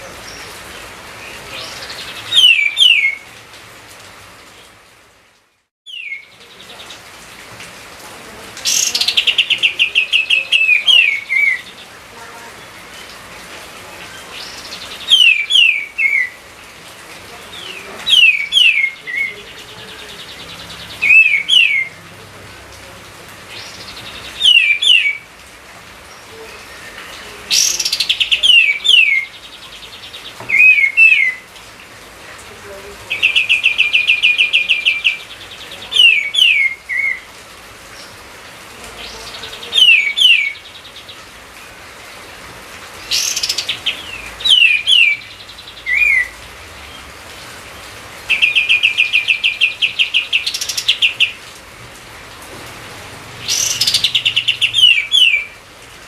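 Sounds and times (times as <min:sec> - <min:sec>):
songbird singing: 0:00.0 - 0:03.6, 0:05.8 - 0:55.8.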